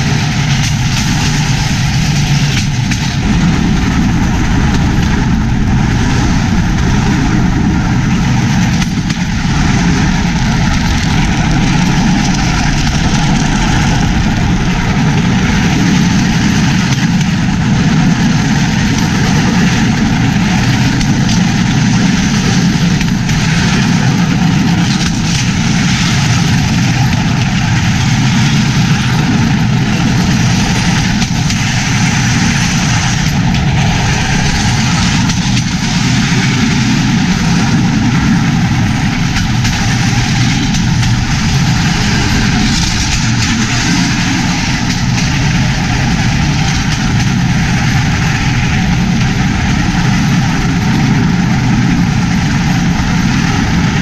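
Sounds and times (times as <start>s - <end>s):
rushing noise of rail car: 0.0s - 54.0s.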